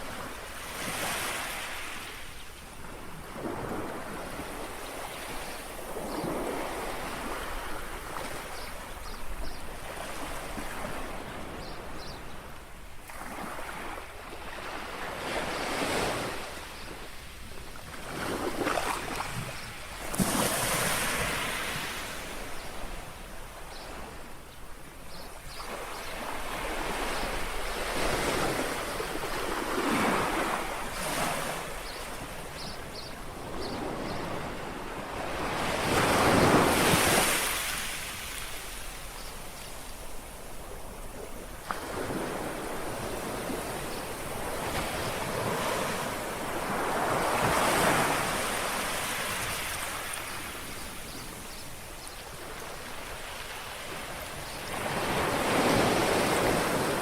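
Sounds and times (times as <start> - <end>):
sea waves lapping on shore: 0.0 - 57.0.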